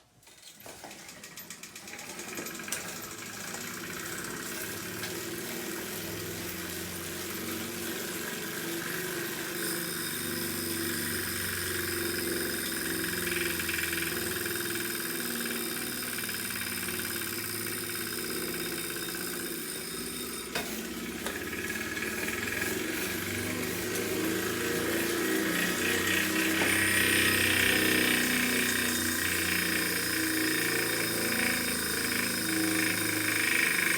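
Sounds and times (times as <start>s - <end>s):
bike trainer whirring: 0.2s - 33.9s.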